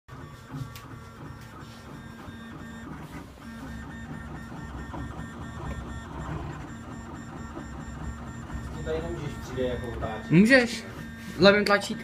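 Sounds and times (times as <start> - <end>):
three d printer stepper motors whining: 0.1 - 12.0.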